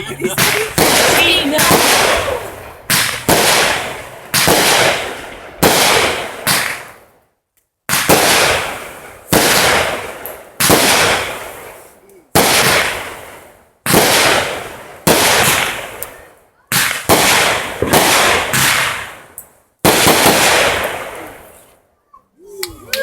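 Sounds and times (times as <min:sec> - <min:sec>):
fireworks bangs with crackle: 0:00.0 - 0:07.2, 0:07.9 - 0:21.7.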